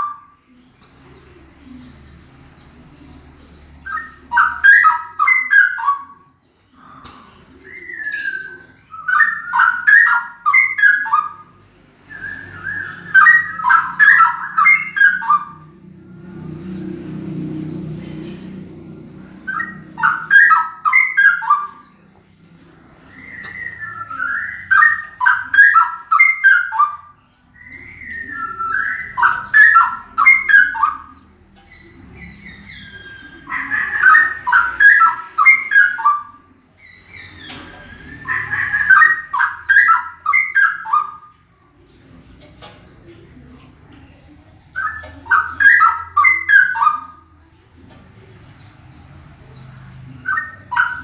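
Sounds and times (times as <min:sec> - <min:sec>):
bird singing warbled phrases: 0:00.0 - 0:51.0.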